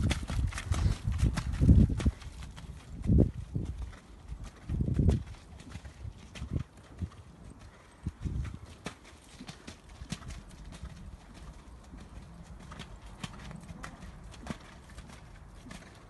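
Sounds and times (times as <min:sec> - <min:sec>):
hoofbeats on wet sand: 0:00.0 - 0:16.0.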